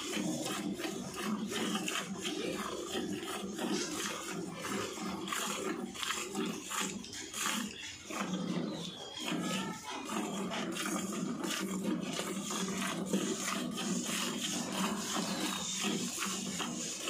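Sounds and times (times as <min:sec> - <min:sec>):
milk squirting into a steel pail: 0:00.0 - 0:17.0.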